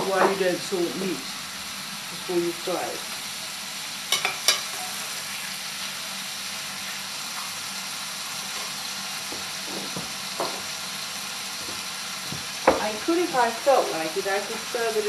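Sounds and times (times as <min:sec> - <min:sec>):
mushrooms sizzling in a pan: 0:00.0 - 0:15.0.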